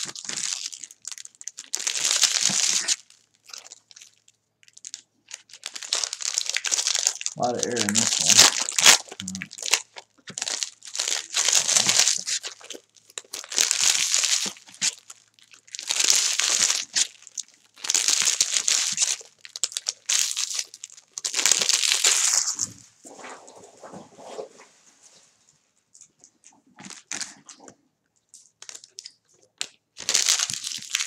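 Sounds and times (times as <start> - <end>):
foil wrappers crinkling and tearing: 0.0 - 22.8, 26.8 - 27.6, 28.4 - 31.0.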